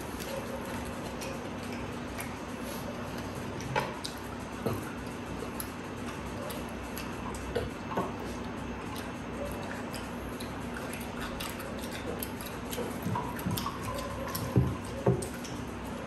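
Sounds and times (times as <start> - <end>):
chewing and crunching: 0.0 - 16.0
low room hum: 0.0 - 16.0.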